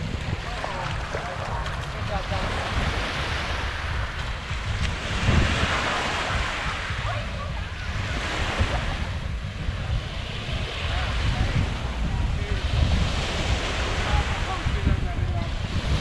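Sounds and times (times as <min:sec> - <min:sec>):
small waves washing on sand: 0:00.0 - 0:16.0
wind buffeting microphone: 0:00.0 - 0:16.0.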